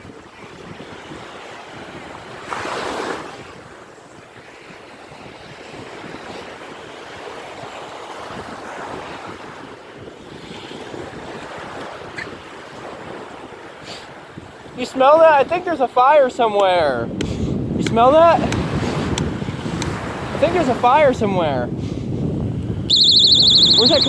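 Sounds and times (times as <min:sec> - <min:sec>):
surf washing on shore: 0:00.0 - 0:24.0
wind buffeting microphone: 0:03.2 - 0:15.7, 0:16.6 - 0:24.0.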